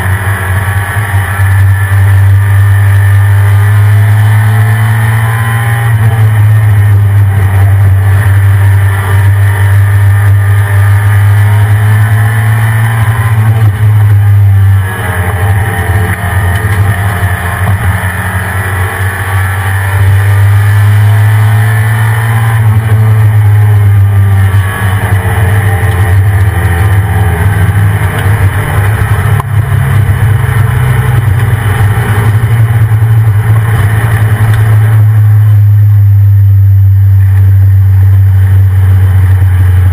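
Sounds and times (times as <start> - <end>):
pickup truck engine droning: 0.0 - 39.9.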